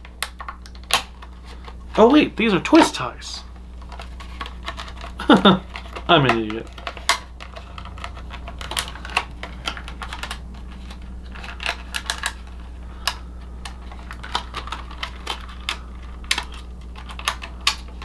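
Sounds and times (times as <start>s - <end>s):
plastic packaging crackling and clicking: 0.0s - 18.0s.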